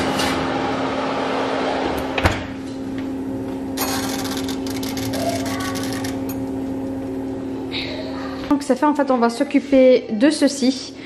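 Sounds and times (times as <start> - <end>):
fan oven humming: 0.0 - 11.0.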